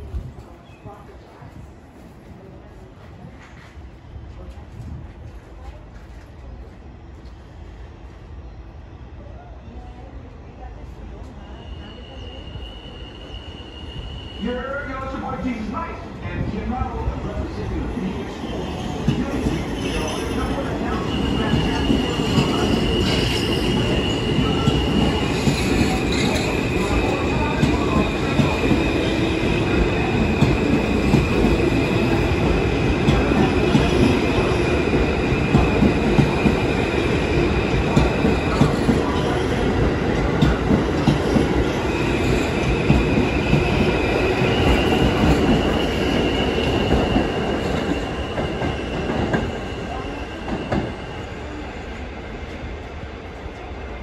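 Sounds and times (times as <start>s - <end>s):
train rumble: 0.0s - 8.2s, 14.8s - 54.0s.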